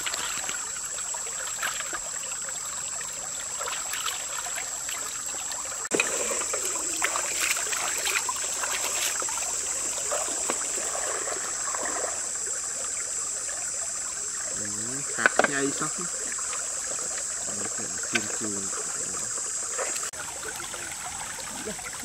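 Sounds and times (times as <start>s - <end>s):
water sloshing in metal basin: 0.0s - 13.2s, 14.5s - 22.0s
stream flowing and trickling: 0.0s - 22.0s.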